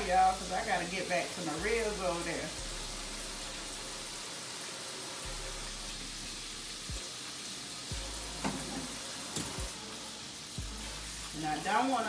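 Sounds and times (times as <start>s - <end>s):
ribs sizzling in a pan: 0.0s - 12.0s.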